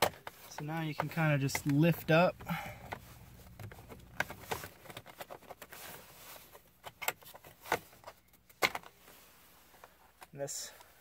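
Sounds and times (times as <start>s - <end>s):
plastic cover clicking and rubbing: 0.0s - 9.0s.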